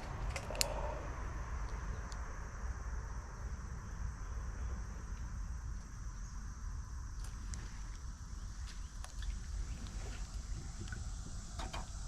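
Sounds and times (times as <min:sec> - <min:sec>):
high insect-like hiss: 0:00.0 - 0:12.0.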